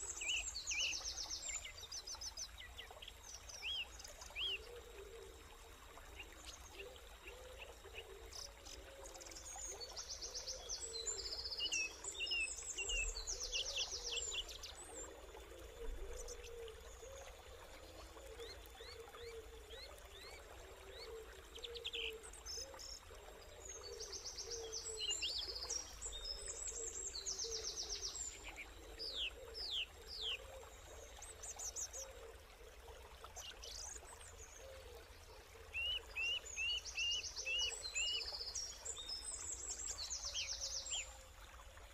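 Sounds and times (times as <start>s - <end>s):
birds singing trills and chirps: 0.0s - 4.9s, 5.8s - 17.4s, 18.2s - 32.3s, 33.3s - 41.2s
running river water: 0.0s - 41.9s.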